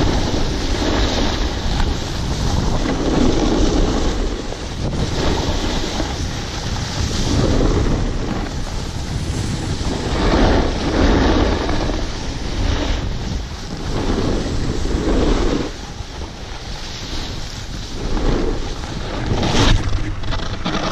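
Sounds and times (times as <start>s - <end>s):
ski edges hissing on snow: 0.0s - 20.9s
wind rushing over microphone: 0.0s - 20.9s.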